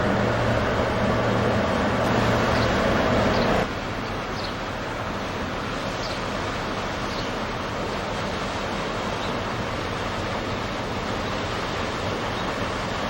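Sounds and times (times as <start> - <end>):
low engine hum: 0.0 - 13.0
rain: 0.0 - 13.0
sea waves: 0.0 - 13.0.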